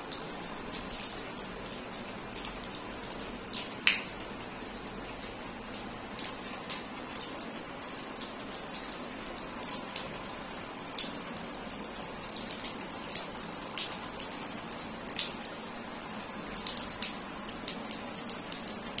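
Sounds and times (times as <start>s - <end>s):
raindrops splashing: 0.0s - 19.0s
steady rain falling: 0.0s - 19.0s.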